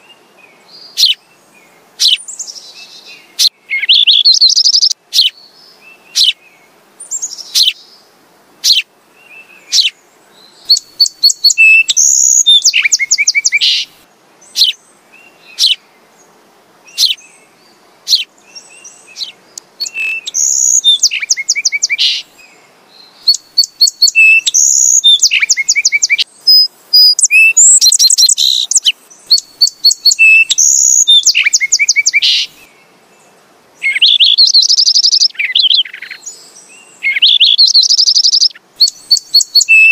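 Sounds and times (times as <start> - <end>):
sparrow chirping: 0.7 - 1.2, 2.0 - 5.5, 6.1 - 6.4, 7.0 - 7.9, 8.6 - 8.9, 9.6 - 15.8, 16.9 - 17.3, 18.0 - 22.3, 23.0 - 32.6, 33.8 - 39.9.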